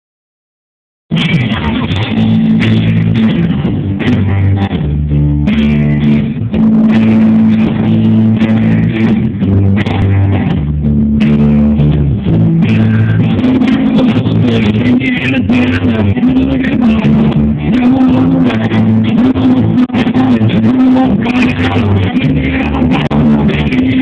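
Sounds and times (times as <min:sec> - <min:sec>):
bass guitar: 0:01.1 - 0:24.0
drums: 0:01.1 - 0:24.0
electric guitars: 0:01.1 - 0:24.0
muffled live rock band: 0:01.1 - 0:24.0.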